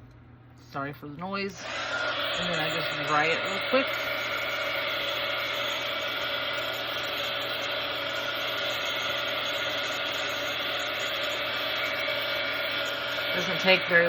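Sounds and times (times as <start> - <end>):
hot-air dryer whirring: 1.2 - 14.0.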